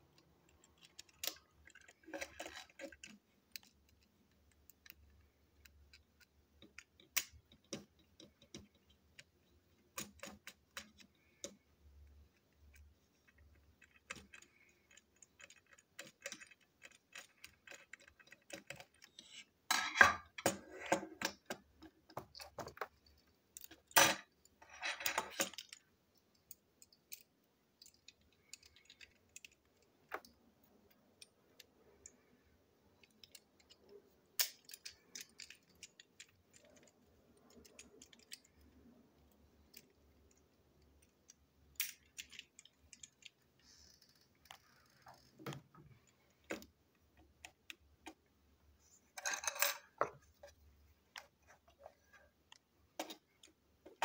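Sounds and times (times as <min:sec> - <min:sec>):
plastic toy parts rattling: 0:00.1 - 0:32.3, 0:32.9 - 0:54.0.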